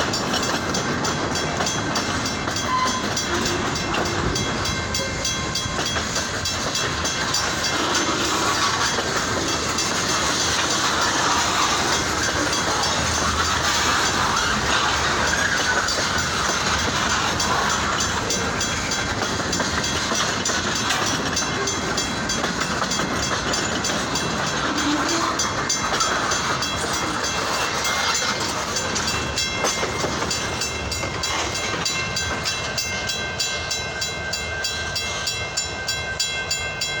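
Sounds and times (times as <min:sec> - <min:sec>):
freight train wheels rumbling: 0:00.0 - 0:37.0
wheels clicking over rail joints: 0:00.0 - 0:37.0.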